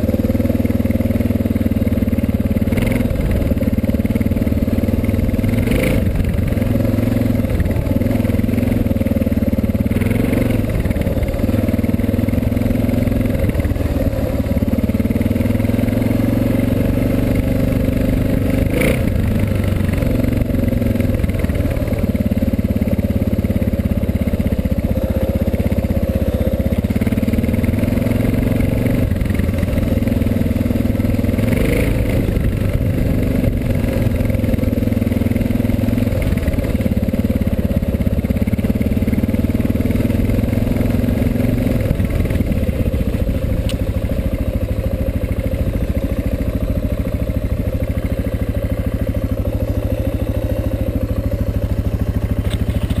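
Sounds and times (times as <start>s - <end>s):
motorcycle engine idling: 0.0s - 53.0s
motorcycle engine revving: 0.0s - 53.0s.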